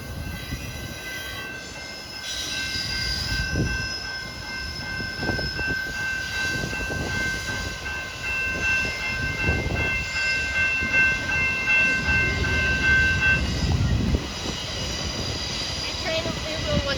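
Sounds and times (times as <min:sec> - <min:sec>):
train cars rumbling: 0:00.0 - 0:16.9.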